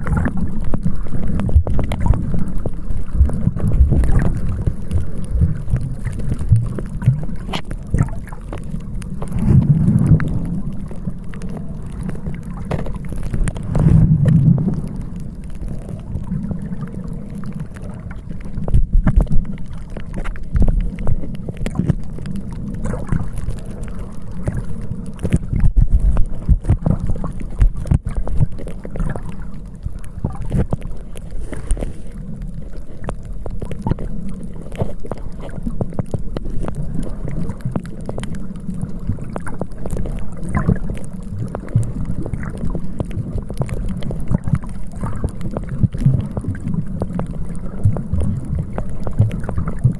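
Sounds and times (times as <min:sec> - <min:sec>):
sea water washing: 0:00.0 - 0:49.9.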